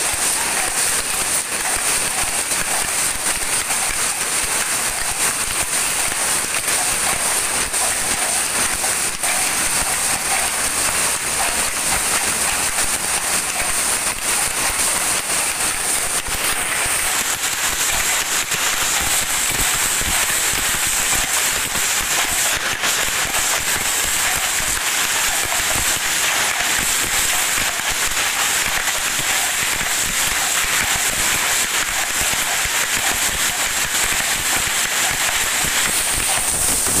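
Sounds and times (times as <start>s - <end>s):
weaving looms clattering: 0.0s - 37.0s.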